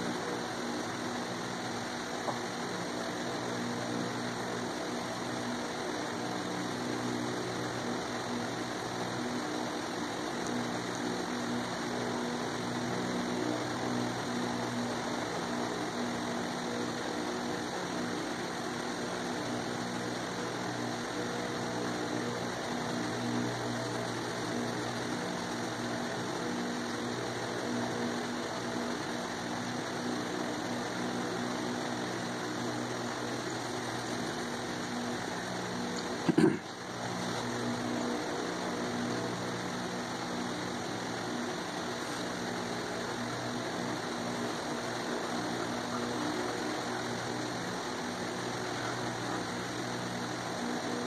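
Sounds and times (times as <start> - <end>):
constant hiss: 0.0 - 51.0
machine hum: 0.0 - 51.0.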